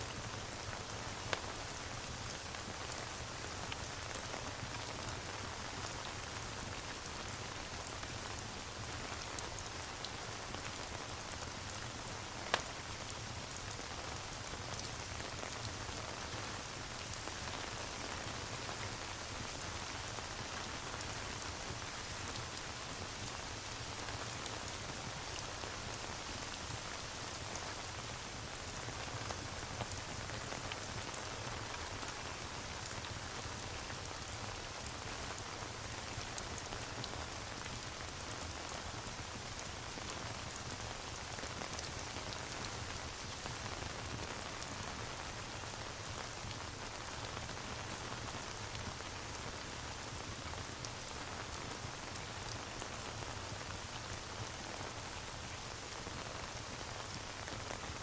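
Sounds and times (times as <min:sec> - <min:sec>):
rain hiss: 0:00.0 - 0:58.0
faint ticks of raindrops: 0:00.1 - 0:58.0.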